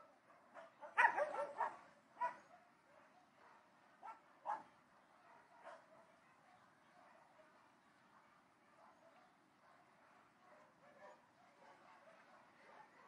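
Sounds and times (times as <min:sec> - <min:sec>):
distant dogs barking: 0:00.0 - 0:13.0.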